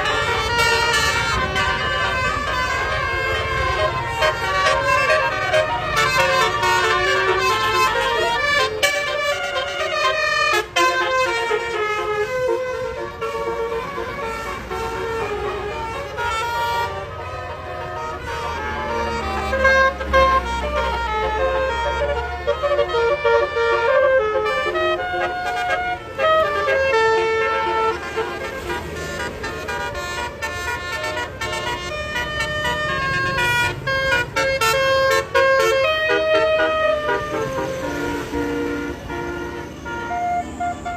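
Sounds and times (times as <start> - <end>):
musical bus horn tune: 0.0 - 40.9.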